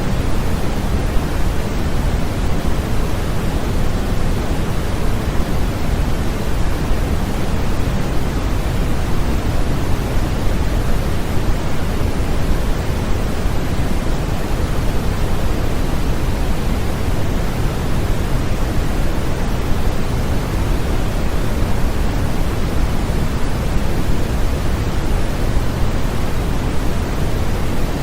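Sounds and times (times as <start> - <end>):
white noise hiss: 0.0 - 28.0.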